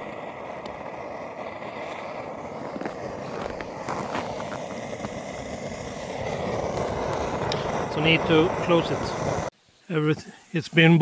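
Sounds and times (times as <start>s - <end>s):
water boiling in a pot: 0.0s - 9.5s.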